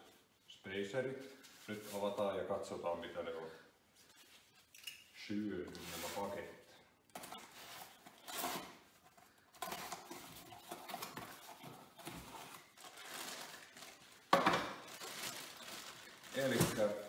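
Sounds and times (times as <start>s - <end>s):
plastic wrapping rustling: 0.0s - 17.0s.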